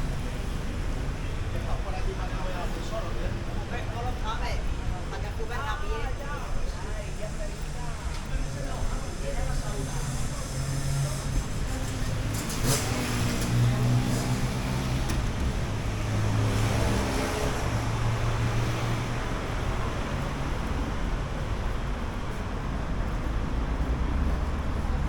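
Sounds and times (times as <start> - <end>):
low traffic hum: 0.0 - 25.0
vehicles passing: 0.0 - 25.0.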